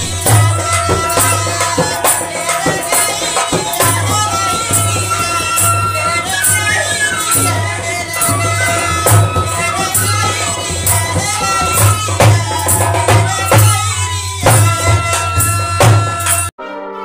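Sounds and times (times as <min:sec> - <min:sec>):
dholak drum beating: 0:00.0 - 0:16.5
woman singing: 0:00.0 - 0:16.5.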